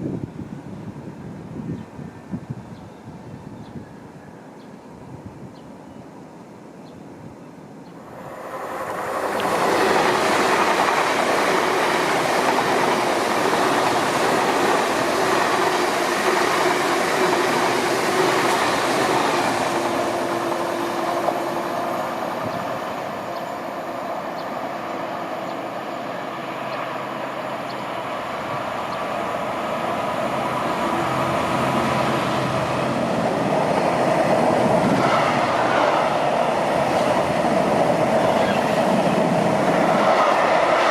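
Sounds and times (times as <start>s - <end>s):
train running on rails: 0.0s - 40.9s.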